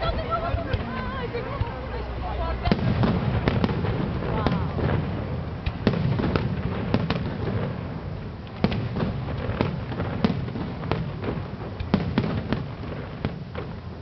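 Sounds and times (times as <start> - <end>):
fireworks sharp bangs: 0.0 - 14.0
low rumble of fireworks bursts: 0.0 - 14.0.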